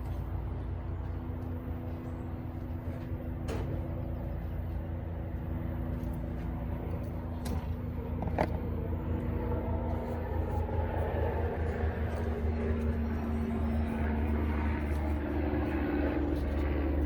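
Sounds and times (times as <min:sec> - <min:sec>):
engine low drone: 0:00.0 - 0:17.0.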